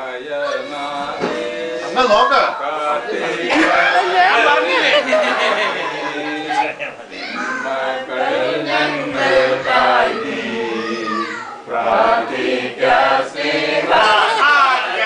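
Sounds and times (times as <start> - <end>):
voices singing: 0.0 - 15.0.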